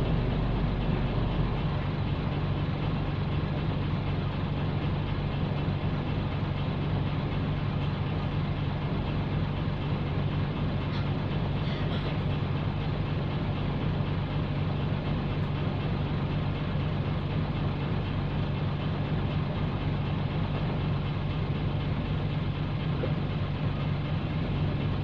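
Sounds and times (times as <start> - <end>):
diesel bus engine droning: 0.0 - 25.0.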